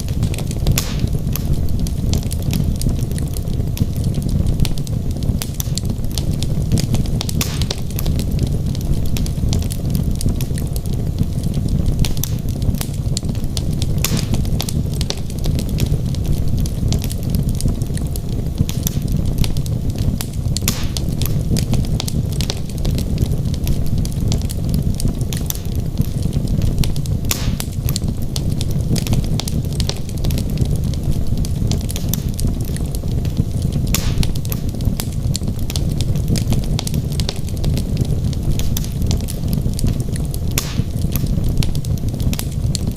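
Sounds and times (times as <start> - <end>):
logs crackling and popping: 0.0 - 42.9
wood fire burning: 0.0 - 42.9.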